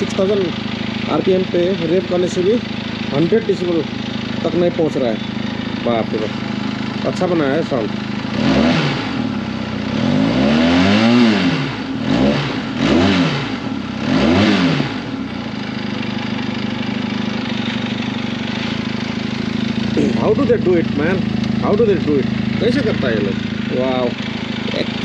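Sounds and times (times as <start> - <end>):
motorcycle engine revving and idling: 0.0 - 25.0.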